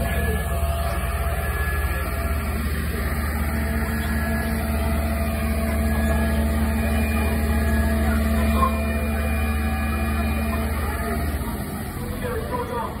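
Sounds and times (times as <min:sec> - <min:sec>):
constant hum: 0:00.0 - 0:13.0
diesel engine droning: 0:00.0 - 0:13.0.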